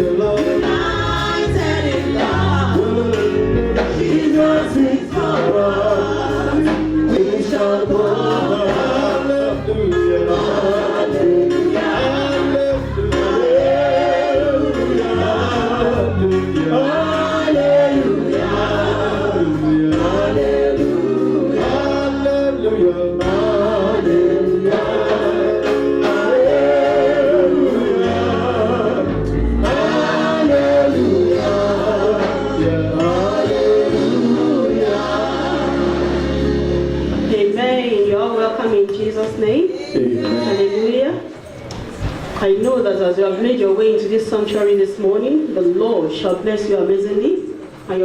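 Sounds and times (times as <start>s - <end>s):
choir and congregation singing: 0.0s - 38.2s, 39.5s - 42.5s
musical accompaniment: 0.0s - 42.8s.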